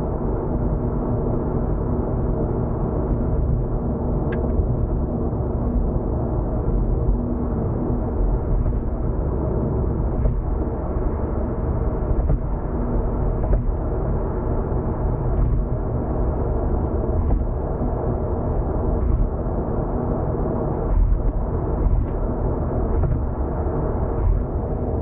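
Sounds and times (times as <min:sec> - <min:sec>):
car tyre and engine rumble: 0:00.3 - 0:25.0.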